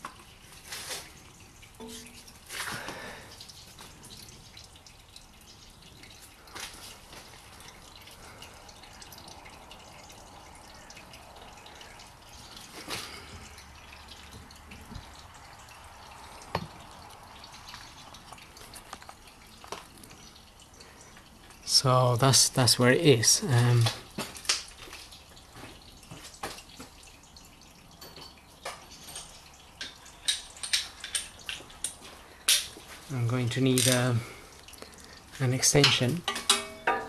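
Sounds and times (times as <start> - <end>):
oil dripping into drain pan: 0.0 - 37.0.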